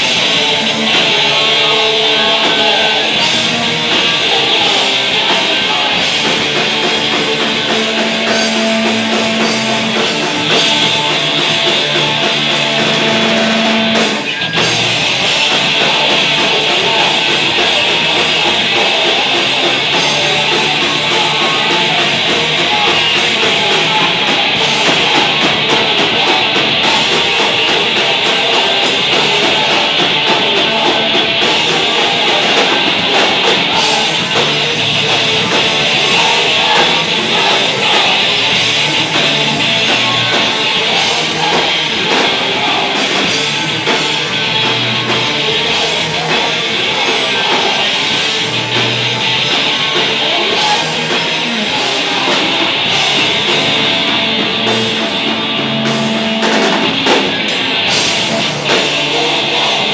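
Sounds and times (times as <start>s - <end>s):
heavy rock band playing: 0.0s - 59.9s.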